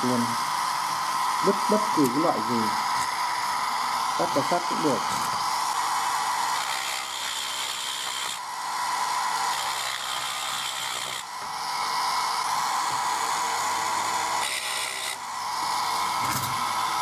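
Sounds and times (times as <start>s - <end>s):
rotary tool grinding whir: 0.0s - 17.0s.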